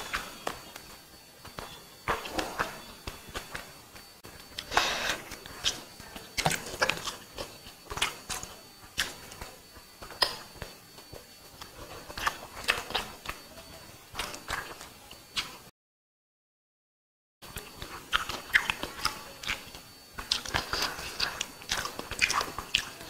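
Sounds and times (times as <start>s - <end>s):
chewing and wet mouth sounds: 0.0s - 15.7s, 17.5s - 23.0s
fingers mixing food: 0.0s - 15.7s, 17.4s - 23.0s.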